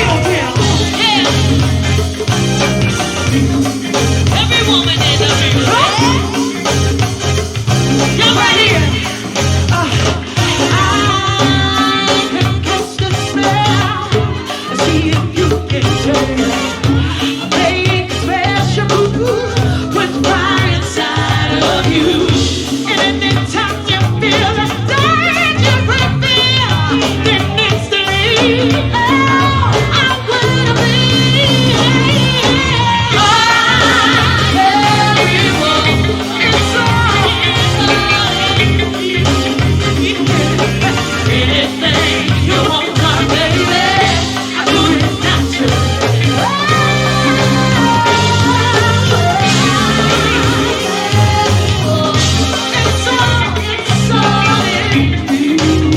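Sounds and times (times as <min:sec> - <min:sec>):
bass: 0:00.0 - 0:55.9
steady drum beat: 0:00.0 - 0:55.9.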